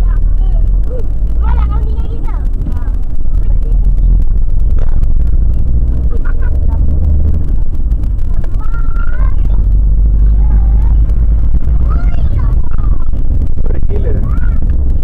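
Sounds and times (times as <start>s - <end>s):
vehicle engine and road rumble: 0.0s - 15.0s
wind on microphone: 0.0s - 15.0s.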